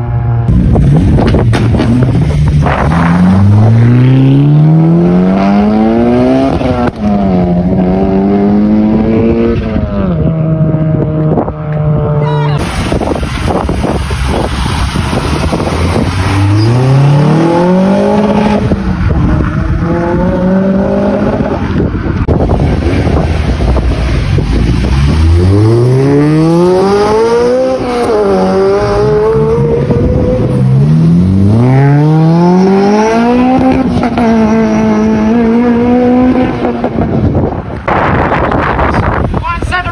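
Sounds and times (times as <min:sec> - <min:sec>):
car engines accelerating hard: 0:00.0 - 0:39.4.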